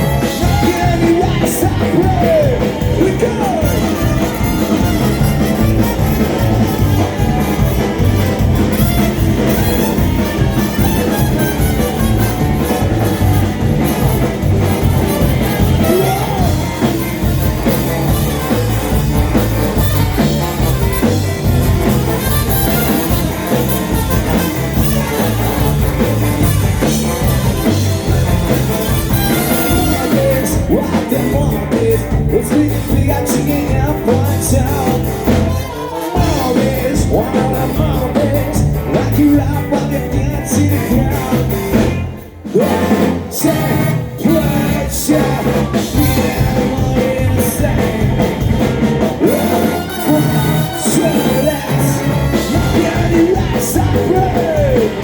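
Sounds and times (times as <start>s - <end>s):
ska-punk band playing live: 0.0s - 55.0s.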